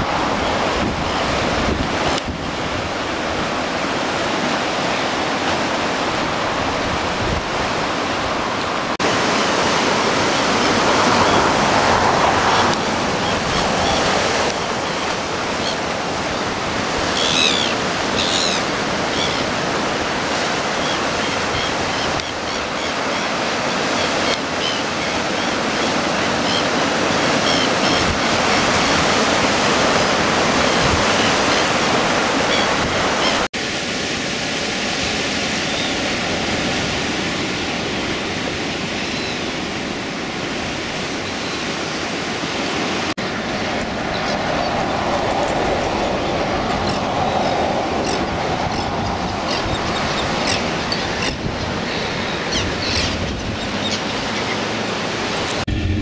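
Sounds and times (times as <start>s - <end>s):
surf washing over rocks: 0.0s - 56.0s.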